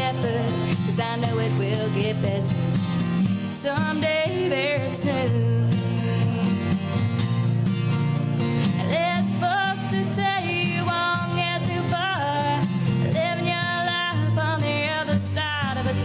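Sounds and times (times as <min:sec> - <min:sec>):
woman singing: 0:00.0 - 0:06.9, 0:08.6 - 0:16.0
acoustic guitar strumming: 0:00.0 - 0:16.0.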